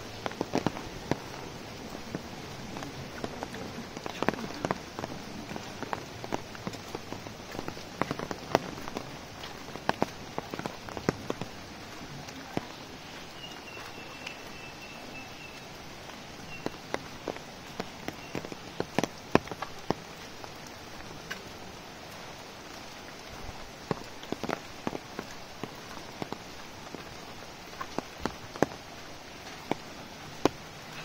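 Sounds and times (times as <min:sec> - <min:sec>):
large raindrops tapping: 0:00.0 - 0:31.0
steady rain hiss: 0:00.0 - 0:31.0.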